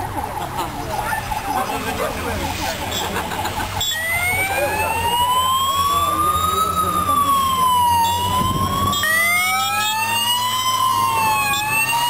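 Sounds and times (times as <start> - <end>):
police sirens wailing: 0.0 - 12.0.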